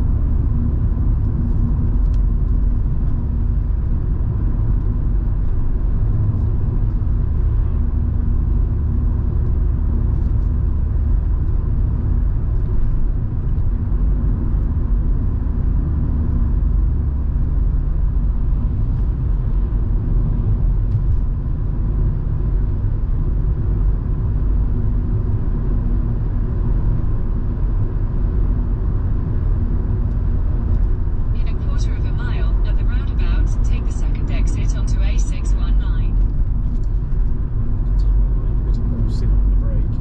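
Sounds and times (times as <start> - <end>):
car engine low rumble: 0.0 - 40.0
tyre and road noise: 0.0 - 40.0.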